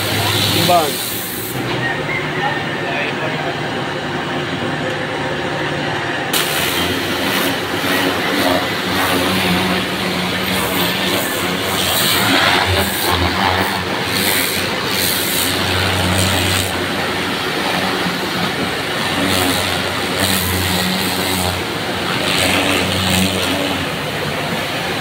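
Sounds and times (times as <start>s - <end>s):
pressure washer spray hissing: 0.0s - 1.7s, 6.3s - 25.0s
pump engine drone: 0.0s - 25.0s.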